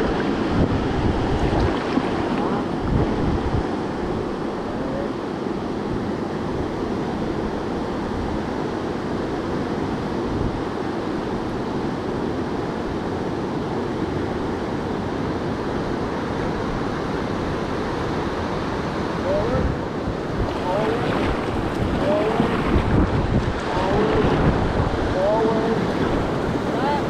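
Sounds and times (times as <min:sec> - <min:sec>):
river water rushing over rapids: 0:00.0 - 0:27.0.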